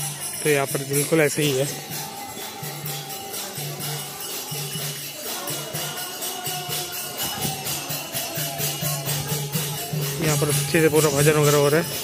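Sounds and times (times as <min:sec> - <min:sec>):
faint chanting: 0:00.0 - 0:12.0
jingling hand percussion: 0:00.0 - 0:12.0.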